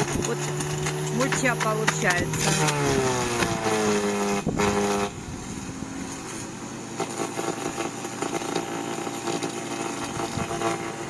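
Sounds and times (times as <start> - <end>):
branch chipper shredding branches: 0.0 - 11.0.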